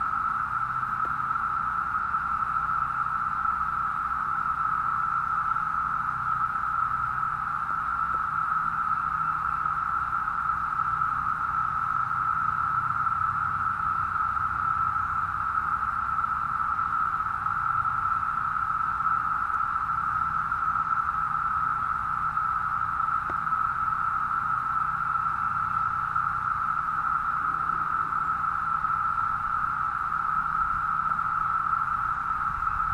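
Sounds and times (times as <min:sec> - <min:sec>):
cicadas droning: 0:00.0 - 0:32.9.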